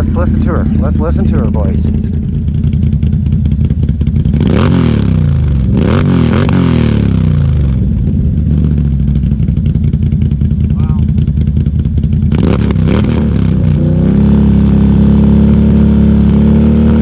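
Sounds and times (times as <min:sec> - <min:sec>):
engine idling: 0:00.0 - 0:17.0
engine throttle blips: 0:00.0 - 0:17.0.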